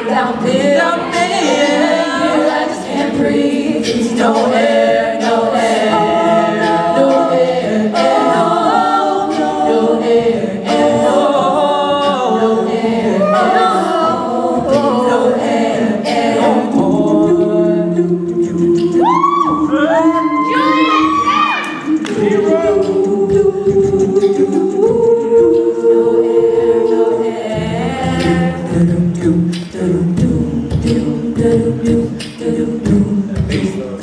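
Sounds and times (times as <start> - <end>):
a cappella group singing: 0.0 - 34.0.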